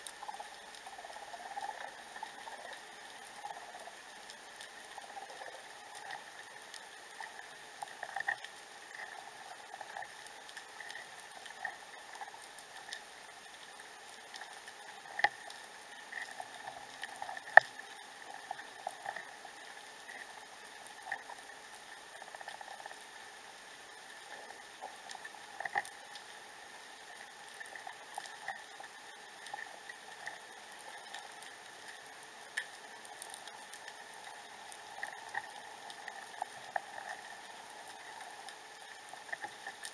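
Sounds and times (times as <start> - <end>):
small underwater clicks and crackles: 0.0 - 39.9
underwater hiss and hum: 0.0 - 39.9.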